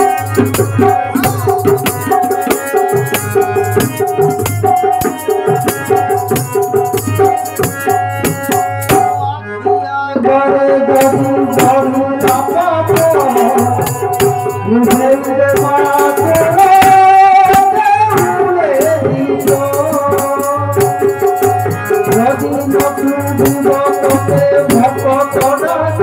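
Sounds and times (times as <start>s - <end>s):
man singing: 0.0s - 3.0s, 5.0s - 26.0s
rattling hand percussion: 0.0s - 9.8s, 11.0s - 26.0s
harmonium melody: 0.0s - 26.0s.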